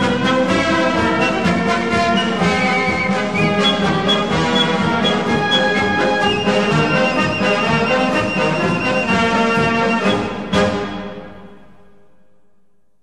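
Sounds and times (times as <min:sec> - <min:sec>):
orchestral music with brass: 0:00.0 - 0:12.0.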